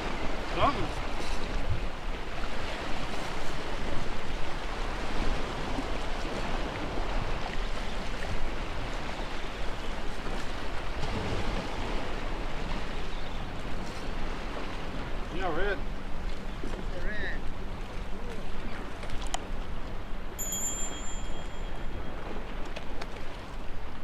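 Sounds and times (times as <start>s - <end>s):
surf washing against jetty: 0.0s - 24.0s.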